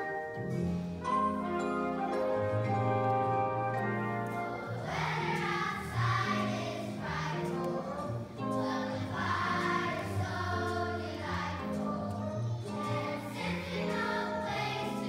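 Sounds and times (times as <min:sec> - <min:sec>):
instrumental accompaniment: 0:00.0 - 0:15.0
children's choir singing: 0:01.0 - 0:15.0.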